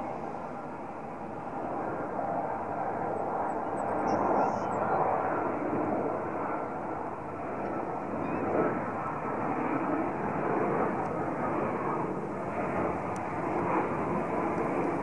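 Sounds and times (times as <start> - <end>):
faint steady tones: 0.0 - 15.0
turboprop engine and propeller hum: 0.0 - 15.0.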